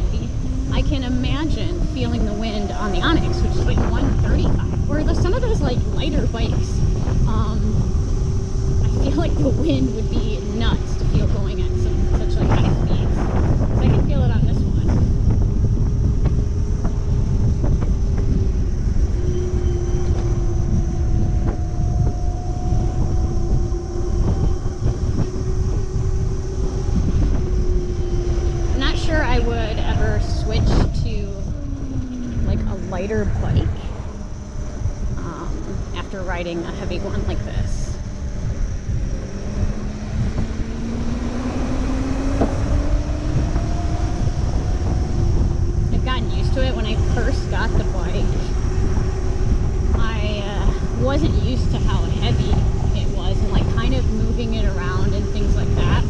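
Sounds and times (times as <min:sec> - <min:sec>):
electric moped motor whine: 0:00.0 - 0:56.0
wind buffeting microphone: 0:00.0 - 0:56.0.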